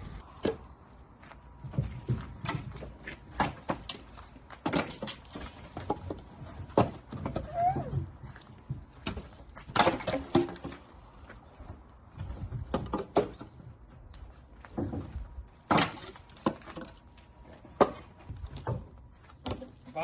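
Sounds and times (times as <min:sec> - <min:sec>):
firewood logs knocking: 0:01.6 - 0:14.0, 0:14.6 - 0:19.9.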